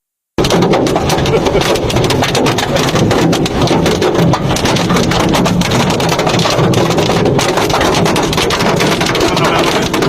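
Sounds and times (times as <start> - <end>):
hail clattering on hard surfaces: 0.4 - 10.0
rain: 0.4 - 10.0.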